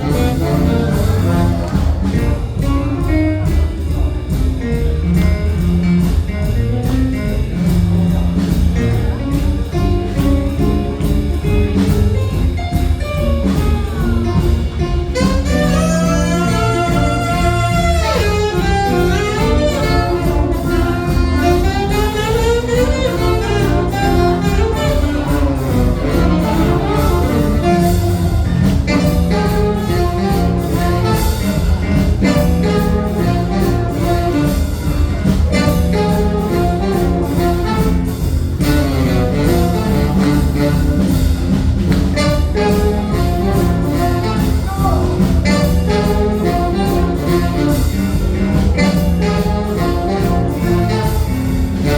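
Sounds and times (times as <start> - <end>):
horns playing melody: 0.0 - 5.6, 13.1 - 51.9
live jazz band playing: 0.0 - 51.9.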